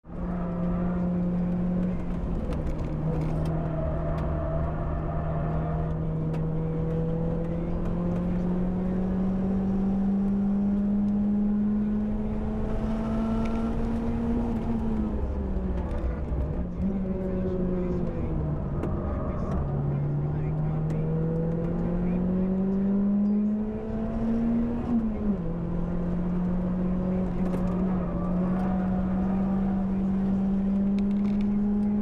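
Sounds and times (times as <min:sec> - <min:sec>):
car engine revving high: 0:00.2 - 0:15.6, 0:16.9 - 0:32.0.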